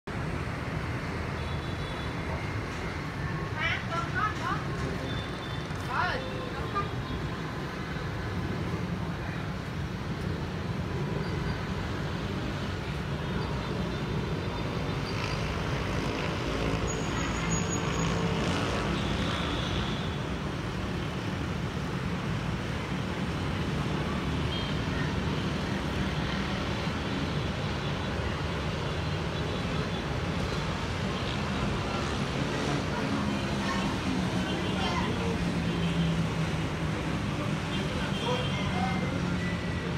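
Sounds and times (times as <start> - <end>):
road traffic noise: 0.0 - 39.9.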